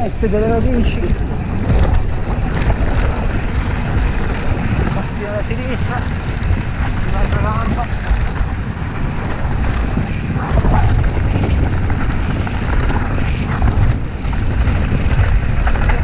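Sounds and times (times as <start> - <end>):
bike knocking and rattling: 0.0 - 16.0
tyres on dirt: 0.0 - 16.0
wind on microphone: 0.0 - 16.0.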